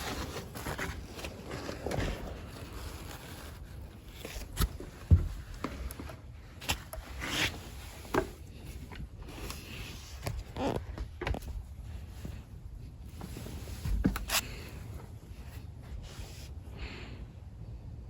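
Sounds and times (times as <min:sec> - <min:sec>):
clothing scraping against ground: 0:00.0 - 0:16.6.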